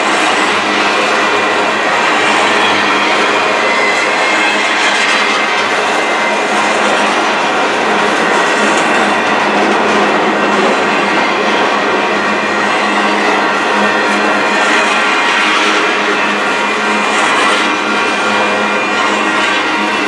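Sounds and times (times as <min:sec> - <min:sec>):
steel wheels on rails: 0:00.0 - 0:20.0.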